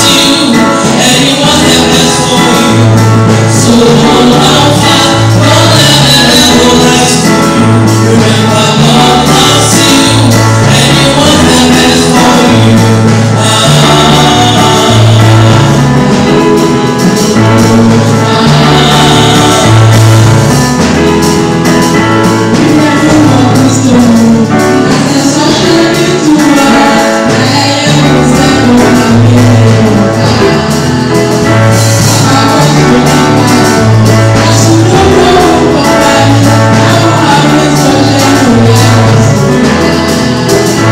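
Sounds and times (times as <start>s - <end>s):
bass line: 0.0s - 40.9s
loud gospel music with singing: 0.0s - 40.9s.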